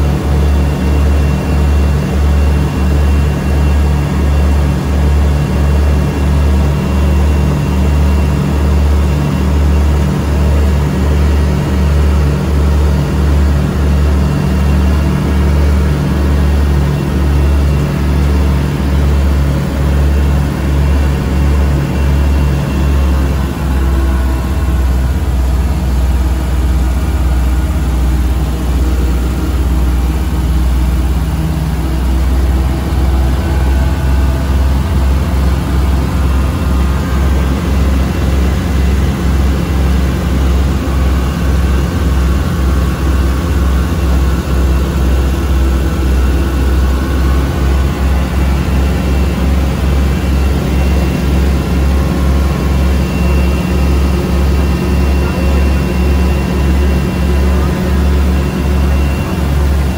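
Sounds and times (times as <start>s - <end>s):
aircraft engines droning: 0.0s - 59.9s
low throb: 0.0s - 59.9s.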